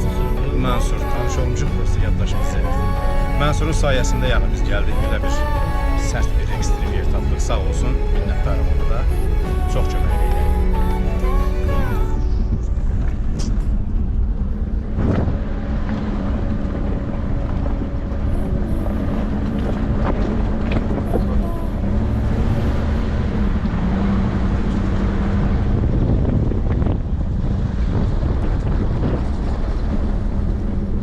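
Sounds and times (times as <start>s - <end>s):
off-road vehicle engine running: 0.0s - 31.0s
wind on microphone: 0.0s - 31.0s.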